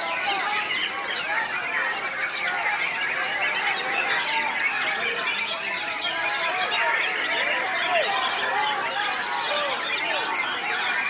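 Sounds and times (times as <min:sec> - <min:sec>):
birds singing in chorus: 0:00.0 - 0:11.0.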